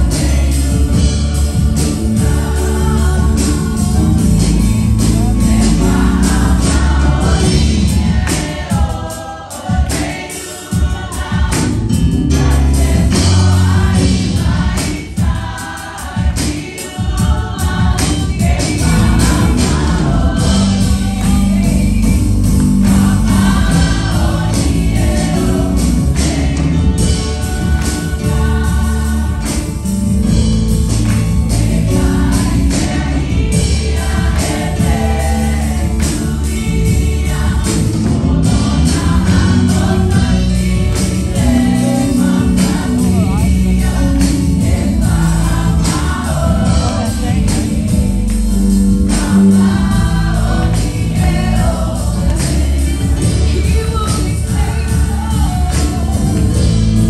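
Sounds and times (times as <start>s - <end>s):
bass: 0.0s - 9.1s, 9.8s - 57.0s
choir singing gospel: 0.0s - 57.0s
steady drum beat: 0.0s - 57.0s.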